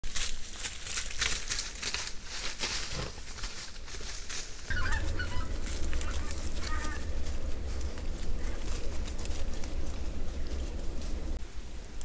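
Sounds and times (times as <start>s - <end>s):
dry leaves rustling and crackling: 0.0s - 11.4s.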